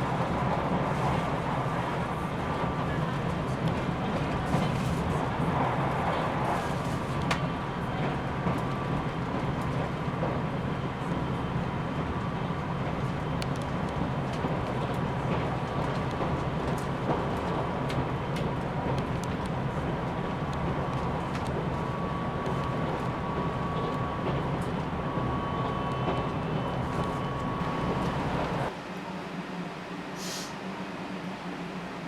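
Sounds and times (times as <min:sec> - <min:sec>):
train wheels rumbling on rail: 0:00.0 - 0:28.8.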